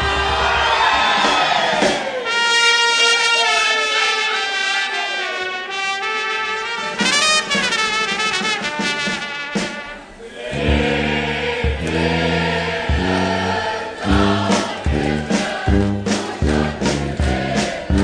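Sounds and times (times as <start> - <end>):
trumpets and trombones playing: 2.2 - 18.0.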